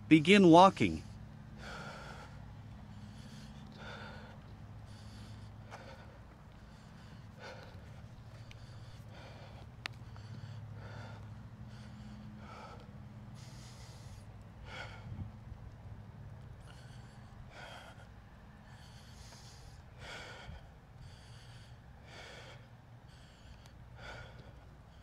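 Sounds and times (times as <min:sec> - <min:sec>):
person breathing hard: 0:00.6 - 0:15.4, 0:16.2 - 0:25.0.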